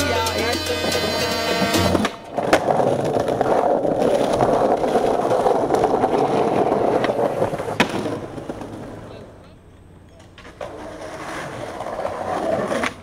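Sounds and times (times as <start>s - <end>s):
skateboard clack: 0.0s - 13.0s
skateboard wheels on stone paving: 0.0s - 13.0s.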